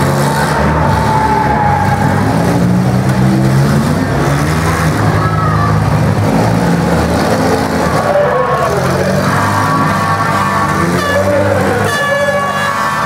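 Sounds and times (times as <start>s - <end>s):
car engines revving loud: 0.0s - 13.0s.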